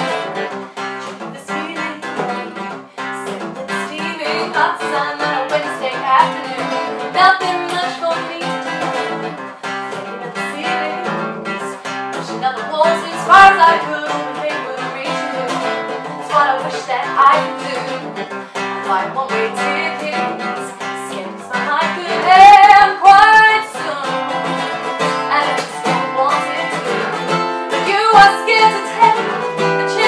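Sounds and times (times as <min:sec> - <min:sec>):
acoustic guitar strumming: 0:00.0 - 0:30.0
woman singing: 0:00.0 - 0:30.0.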